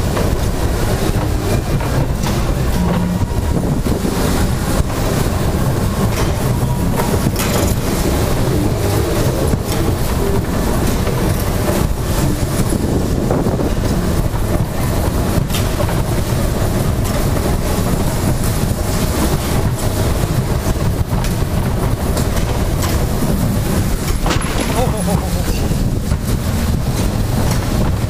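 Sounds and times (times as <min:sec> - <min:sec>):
dodgem car rolling rumble: 0:00.0 - 0:28.0.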